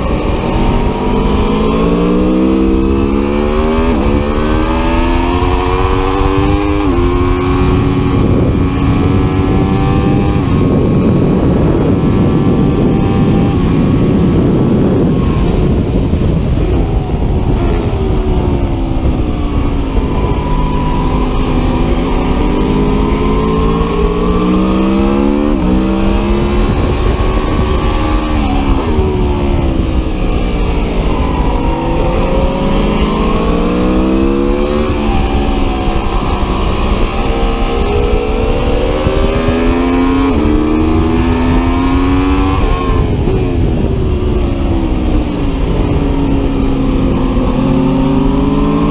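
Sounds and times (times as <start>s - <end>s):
motorcycle engine revving: 0.0s - 48.9s
steady rush of noise: 0.0s - 48.9s.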